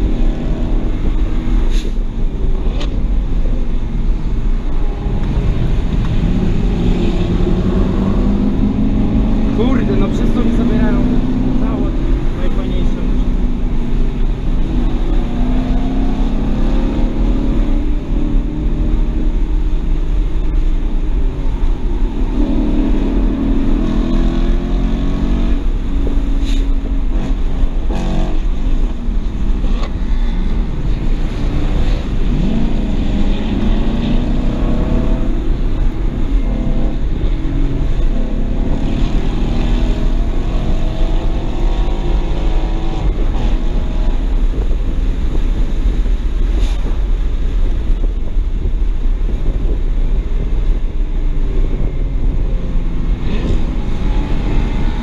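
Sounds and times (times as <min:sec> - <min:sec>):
car engine revving: 0:00.0 - 0:55.0
road and wind rumble: 0:00.0 - 0:55.0.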